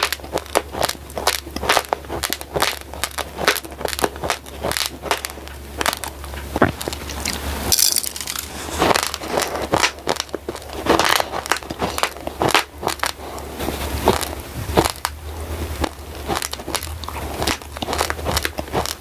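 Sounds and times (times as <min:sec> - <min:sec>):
crunching rice grains being chewed: 0:00.0 - 0:19.0
steady low hum: 0:00.0 - 0:19.0.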